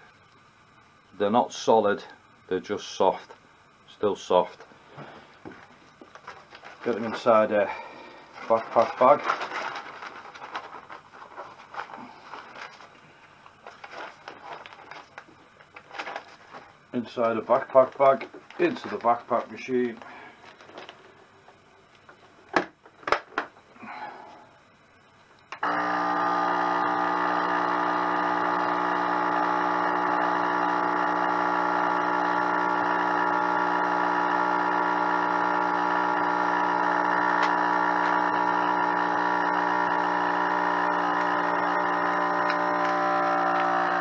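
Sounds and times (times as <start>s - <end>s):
vacuum pump running: 0.0s - 44.0s.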